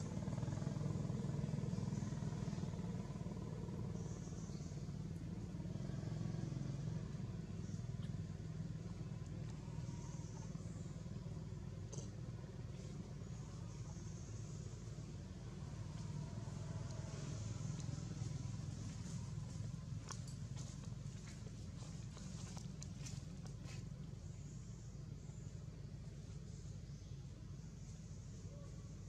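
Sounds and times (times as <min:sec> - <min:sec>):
low droning hum: 0:00.0 - 0:29.0.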